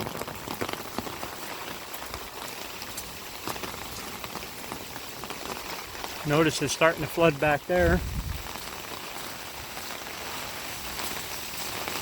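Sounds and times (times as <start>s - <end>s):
heavy rain falling: 0.0s - 12.0s
raindrops ticking on surface: 0.0s - 12.0s.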